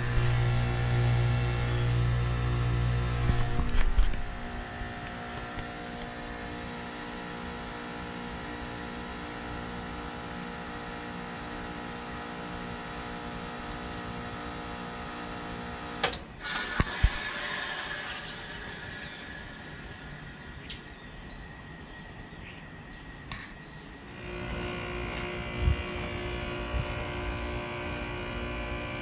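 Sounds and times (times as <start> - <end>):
heat pump humming: 0.0 - 20.7, 24.0 - 29.0.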